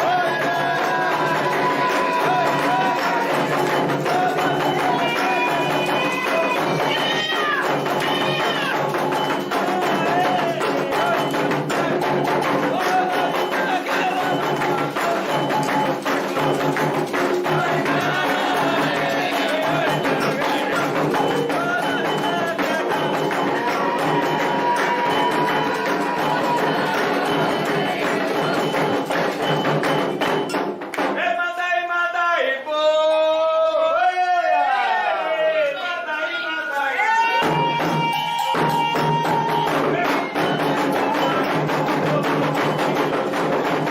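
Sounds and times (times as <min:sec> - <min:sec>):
group of voices singing: 0:00.0 - 0:30.4, 0:31.2 - 0:43.9
hand drums: 0:00.0 - 0:31.4, 0:37.2 - 0:43.9
struck bell: 0:01.2 - 0:31.0, 0:37.4 - 0:43.9.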